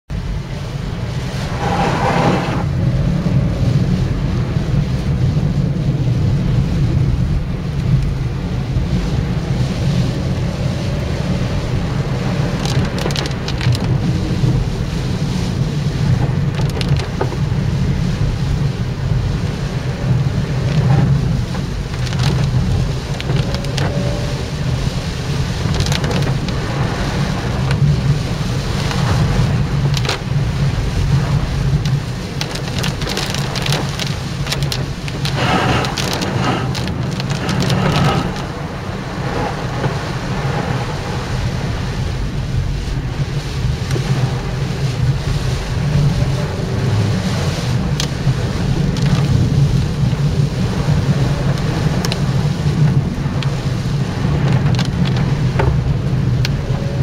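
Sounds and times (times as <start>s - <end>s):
wind: 0.0s - 57.0s
heavy rain: 0.1s - 57.0s
low rumble: 0.1s - 57.0s.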